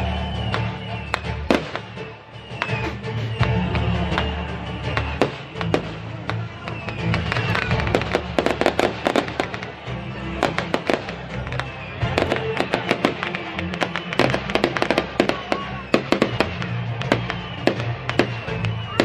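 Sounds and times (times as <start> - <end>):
fireworks crackling and popping: 0.0 - 19.0
music: 0.0 - 19.0.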